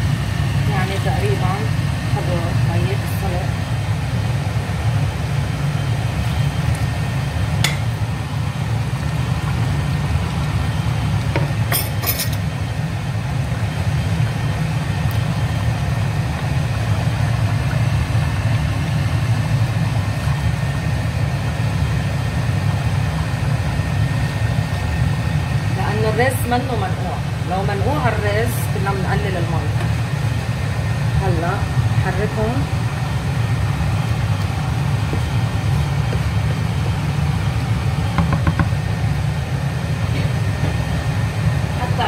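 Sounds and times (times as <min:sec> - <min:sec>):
pot boiling hard: 0:00.0 - 0:42.0.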